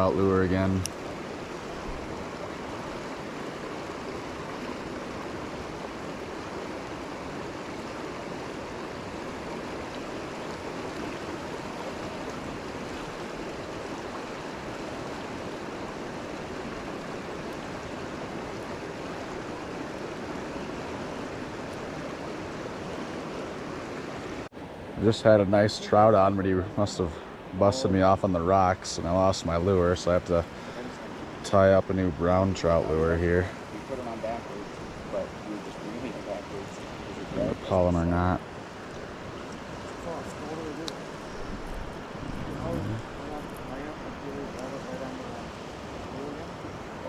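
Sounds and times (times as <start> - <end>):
river rushing: 0.0 - 47.0.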